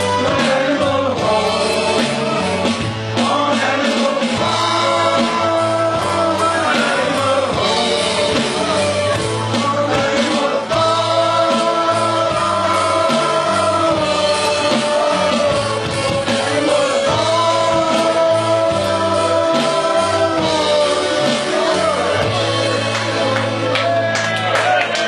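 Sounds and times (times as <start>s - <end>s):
person singing long notes: 0.0s - 23.2s
rock band playing: 0.0s - 25.0s.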